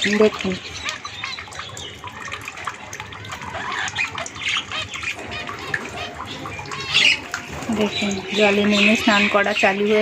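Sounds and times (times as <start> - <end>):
birds chirping and squawking: 0.0 - 10.0
water trickling and splashing: 0.0 - 10.0.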